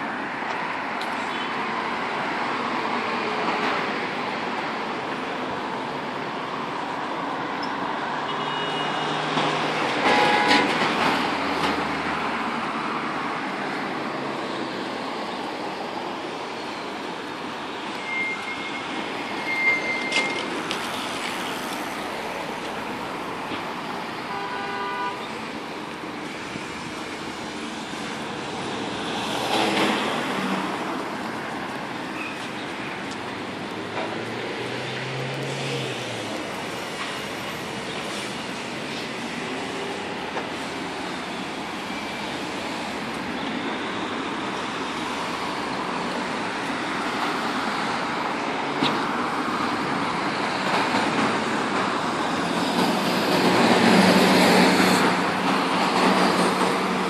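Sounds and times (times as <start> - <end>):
cars driving past: 0.0 - 57.0.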